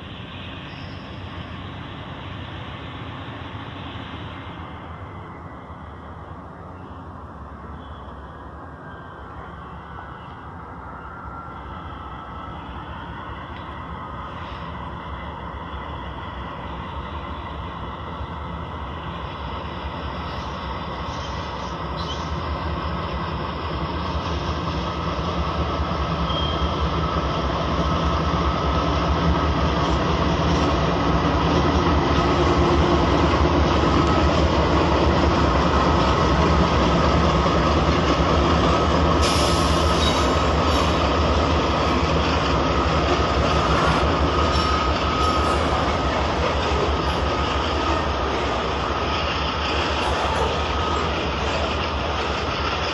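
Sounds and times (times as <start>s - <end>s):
freight train rumbling: 0.0s - 52.9s
train wheel squeal: 0.0s - 52.9s.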